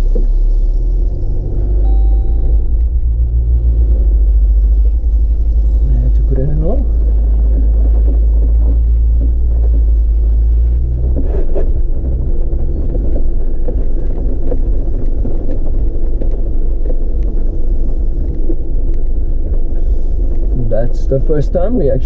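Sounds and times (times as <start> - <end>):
car engine low rumble: 0.0 - 22.0
stones clicking under tyres: 0.0 - 22.0.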